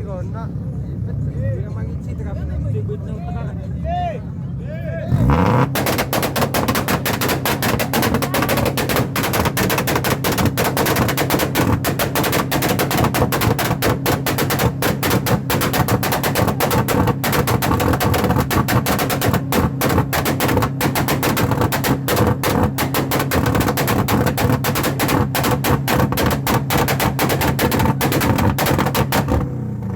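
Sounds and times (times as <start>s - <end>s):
motorcycle engine at high revs: 5.1s - 29.9s
exhaust pops crackling: 5.2s - 29.9s.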